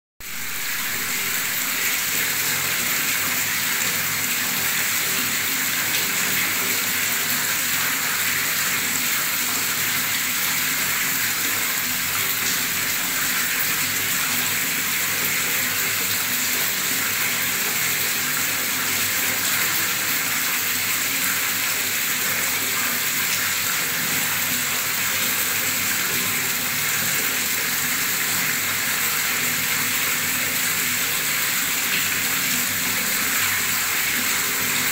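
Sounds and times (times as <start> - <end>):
tap water pouring and splashing: 0.2 - 34.9.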